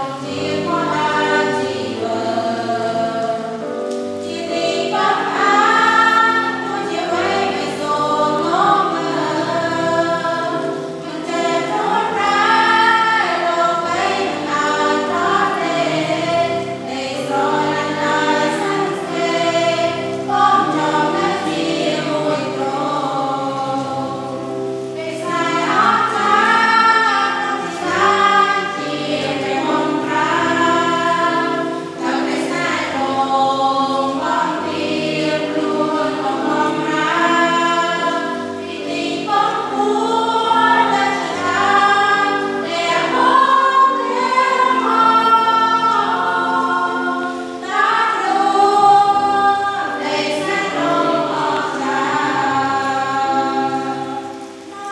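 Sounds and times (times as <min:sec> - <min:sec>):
group of voices singing: 0:00.0 - 0:54.9.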